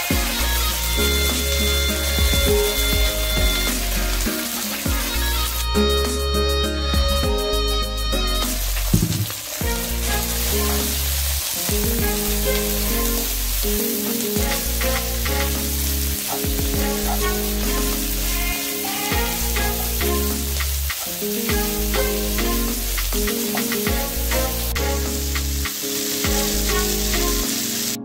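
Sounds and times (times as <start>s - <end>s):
background music: 0.0s - 28.0s
cabbage sizzling in a wok: 0.0s - 28.0s.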